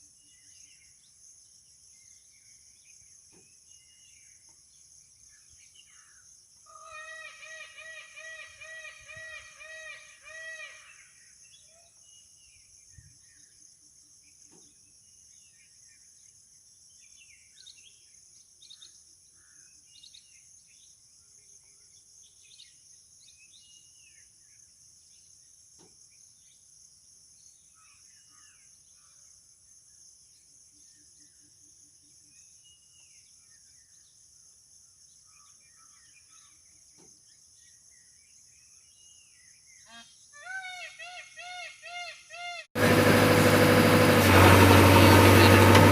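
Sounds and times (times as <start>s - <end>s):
high-pitched insect chorus: 0.0s - 40.4s.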